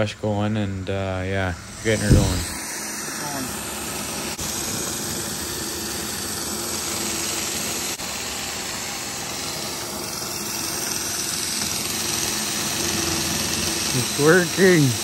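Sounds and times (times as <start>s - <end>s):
cordless drill running: 0.0s - 15.0s.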